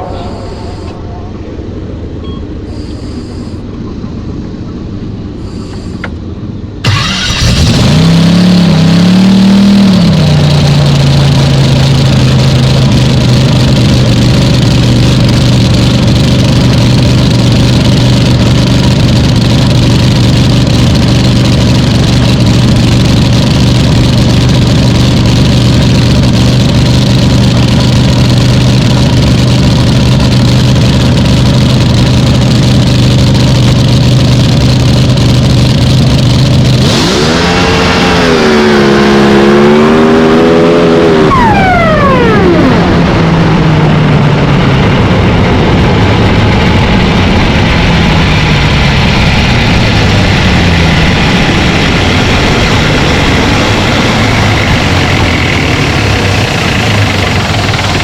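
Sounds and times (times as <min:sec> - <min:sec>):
boat engine idling loudly: 0:06.8 - 0:40.2, 0:41.1 - 0:58.0.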